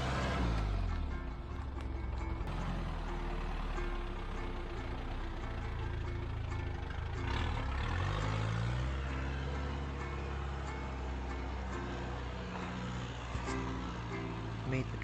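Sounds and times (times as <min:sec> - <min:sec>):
background music: 0:00.0 - 0:15.0
truck engine running: 0:00.0 - 0:15.0.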